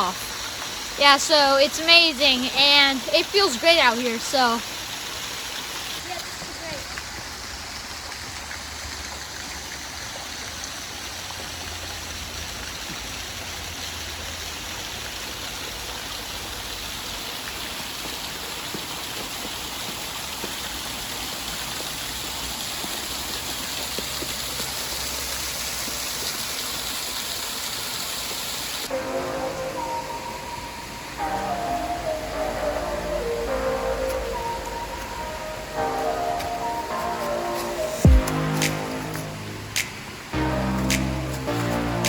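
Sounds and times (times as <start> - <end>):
waterfall rushing over rock: 0.0 - 42.0.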